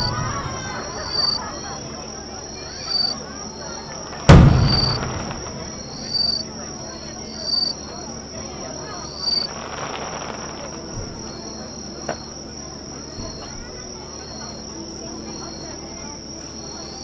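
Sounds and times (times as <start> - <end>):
faint crowd voices: 0.0 - 17.0
insect trill: 0.0 - 17.0
insects chirping: 0.0 - 17.0.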